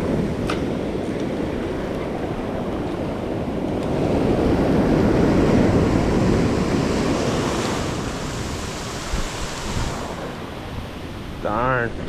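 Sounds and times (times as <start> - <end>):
ocean surf washing onto beach: 0.0 - 12.0
wind buffeting microphone: 0.0 - 12.0.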